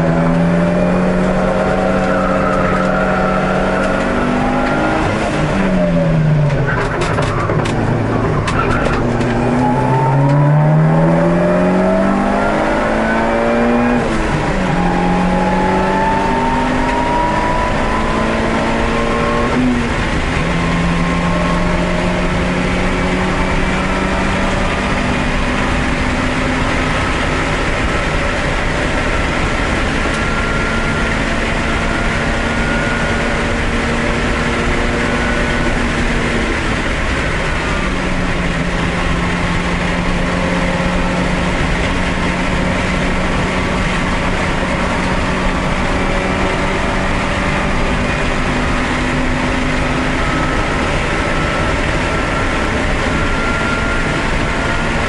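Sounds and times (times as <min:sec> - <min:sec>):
race car engine accelerating: 0:00.0 - 0:55.0
road and wind noise: 0:00.0 - 0:55.0.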